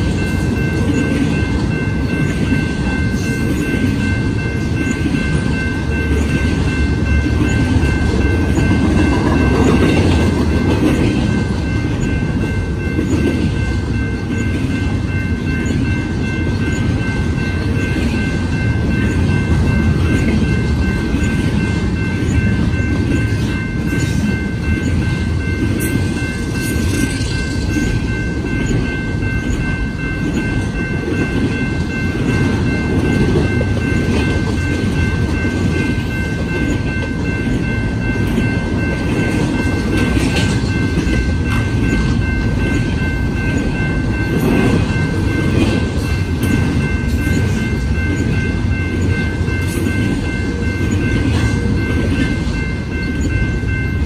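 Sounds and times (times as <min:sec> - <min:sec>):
high ringing tone: 0:00.0 - 0:54.0
steel wheels rumbling on rails: 0:00.0 - 0:54.0.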